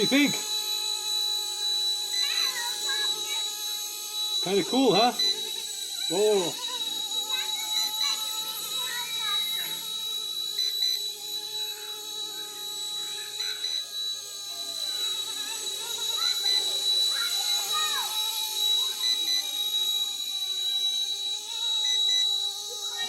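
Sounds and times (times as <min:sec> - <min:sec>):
rc helicopter rotor whine: 0:00.0 - 0:23.0.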